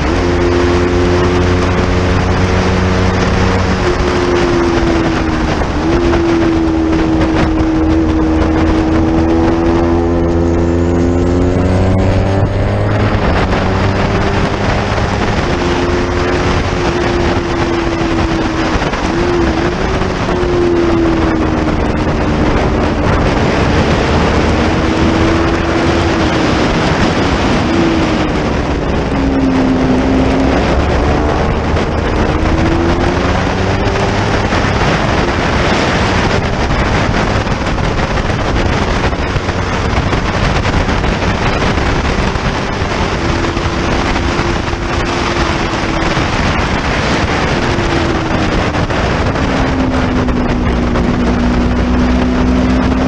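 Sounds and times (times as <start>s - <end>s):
motorcycle engine accelerating: 0.0s - 53.0s
wind noise on microphone: 0.0s - 53.0s.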